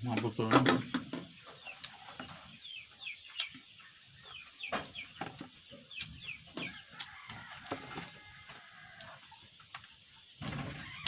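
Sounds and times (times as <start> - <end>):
chickens clucking and peeping: 0.0 - 11.0.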